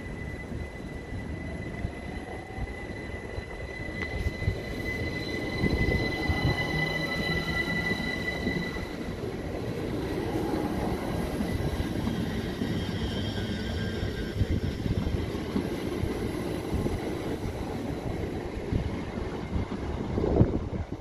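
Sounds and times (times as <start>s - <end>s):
high steady squeal: 0.0s - 18.2s
train rumbling: 0.0s - 21.0s.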